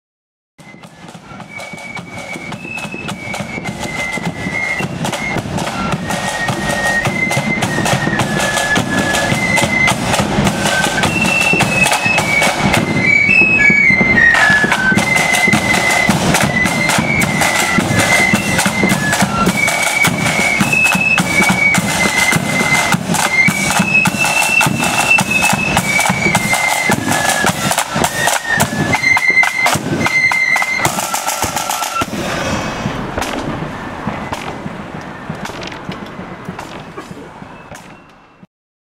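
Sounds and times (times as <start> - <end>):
side drums and bass drum: 0.6 - 38.0
flutes playing melody: 0.6 - 38.5.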